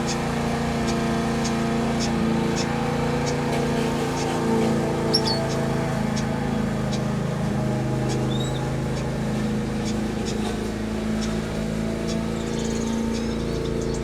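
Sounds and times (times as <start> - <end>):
low mechanical hum: 0.0 - 14.0
small birds chirping: 0.0 - 14.0.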